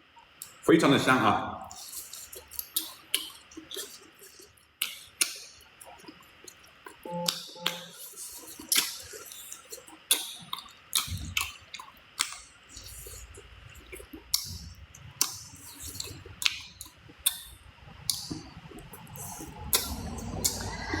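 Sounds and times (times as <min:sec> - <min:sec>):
wet chewing smacks: 0:01.7 - 0:21.0.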